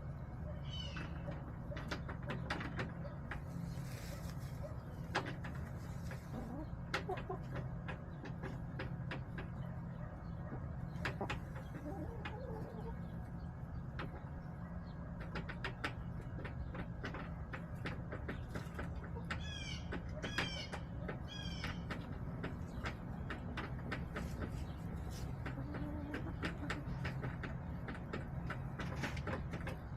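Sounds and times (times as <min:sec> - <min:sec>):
chickens pecking and scratching: 0:00.0 - 0:29.9.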